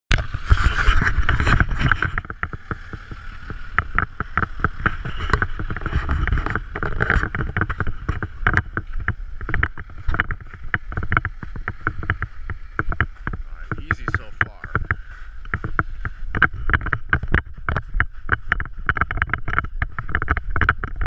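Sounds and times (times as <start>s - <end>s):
wind buffeting microphone: 0.1s - 21.0s.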